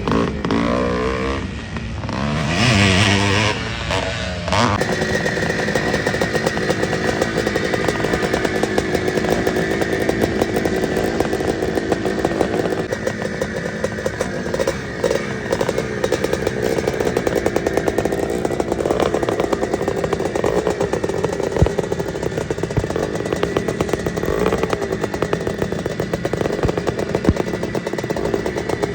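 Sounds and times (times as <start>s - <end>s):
two-stroke dirt bike engines revving: 0.0s - 28.9s.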